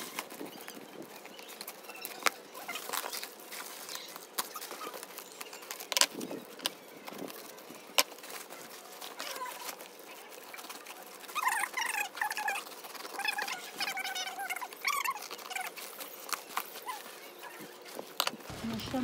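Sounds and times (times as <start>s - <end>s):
plastic parcel crinkling: 0.0s - 19.0s.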